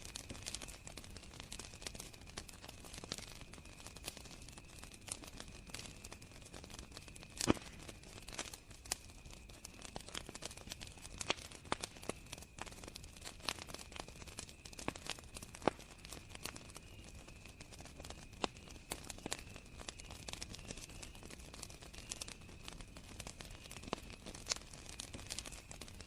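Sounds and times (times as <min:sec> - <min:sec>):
campfire crackling and popping: 0:00.0 - 0:26.0
crickets chirring: 0:00.2 - 0:26.0.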